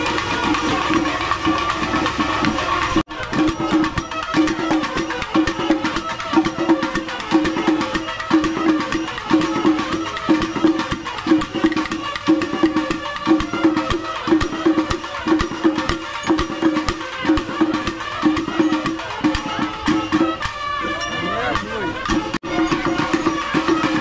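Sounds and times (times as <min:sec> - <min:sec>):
traditional percussion music: 0:00.0 - 0:24.0.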